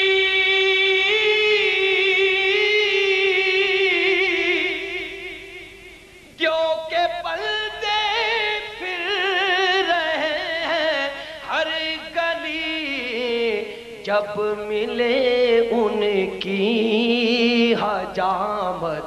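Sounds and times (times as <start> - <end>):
man singing devotional verse: 0.0 - 19.0.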